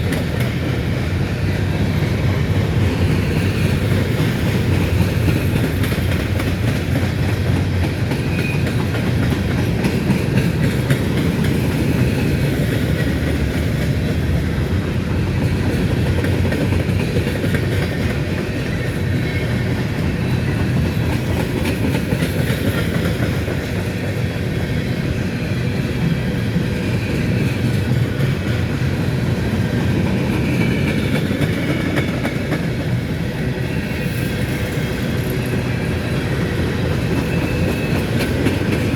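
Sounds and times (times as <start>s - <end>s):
steel wheels on rails: 0.0s - 38.9s.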